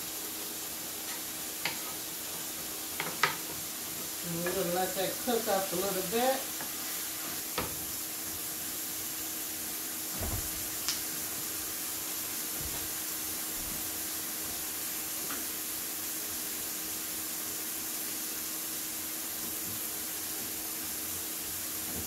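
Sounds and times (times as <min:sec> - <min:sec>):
stir-fry sizzling in a pan: 0:00.0 - 0:22.0.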